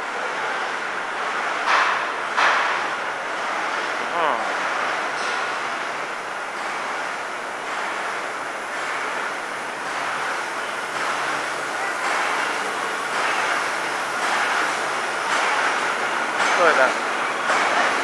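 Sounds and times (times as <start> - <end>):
factory machinery running: 0.0 - 18.0.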